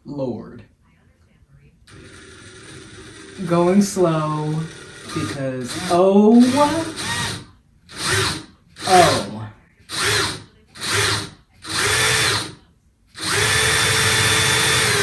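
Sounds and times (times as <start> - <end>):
cordless drill boring into wall: 1.9 - 12.6, 13.2 - 15.0.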